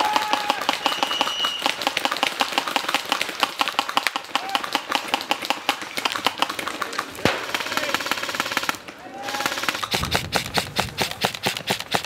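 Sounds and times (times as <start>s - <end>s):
airsoft guns firing: 0.1s - 12.0s.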